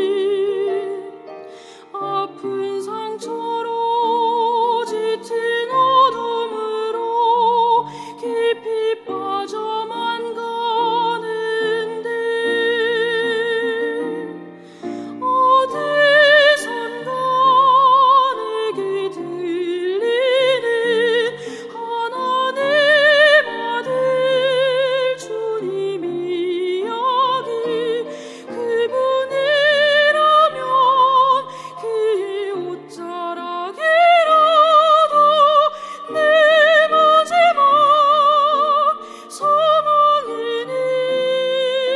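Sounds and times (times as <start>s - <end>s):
soprano singing with vibrato: 0.0s - 41.9s.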